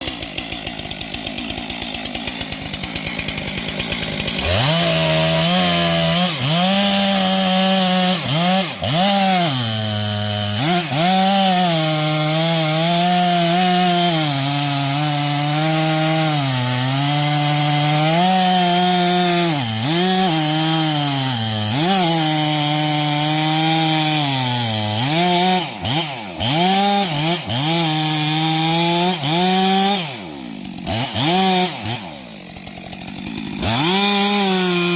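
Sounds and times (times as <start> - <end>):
chainsaw cutting into tree: 0.0 - 34.9.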